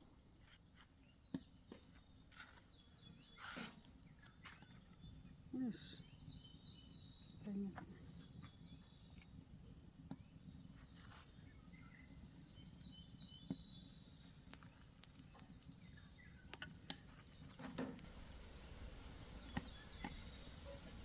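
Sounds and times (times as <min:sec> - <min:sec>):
birds chirping softly: 0:00.3 - 0:21.0.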